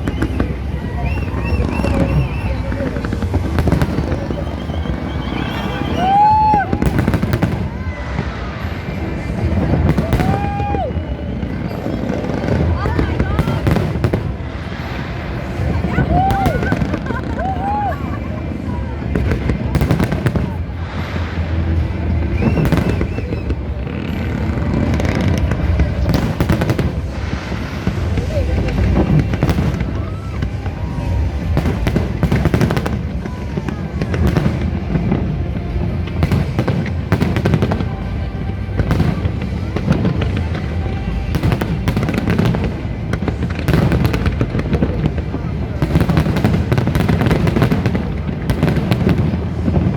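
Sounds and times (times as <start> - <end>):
fireworks booming: 0.0 - 49.9
fireworks crackling: 0.0 - 49.9.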